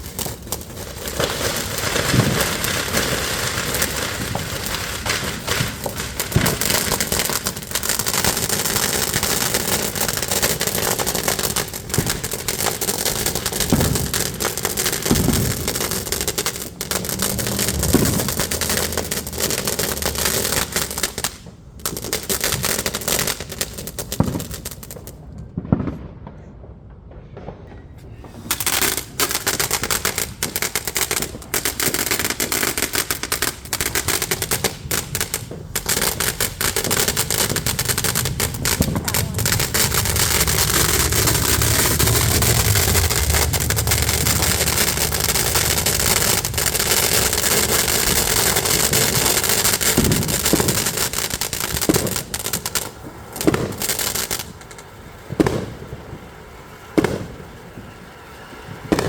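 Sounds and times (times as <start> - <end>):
fireworks popping and crackling: 0.0 - 59.0.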